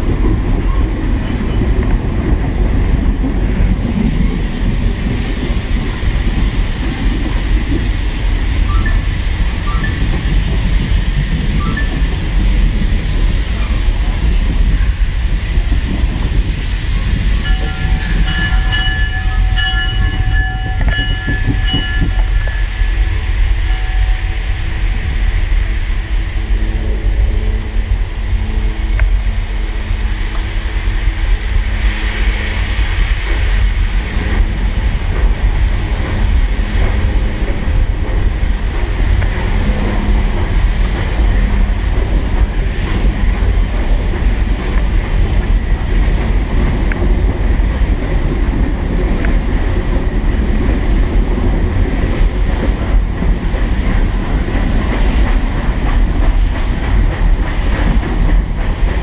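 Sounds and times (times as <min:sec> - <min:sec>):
steam train rumbling: 0:00.0 - 0:59.0
wind buffeting microphone: 0:00.0 - 0:59.0.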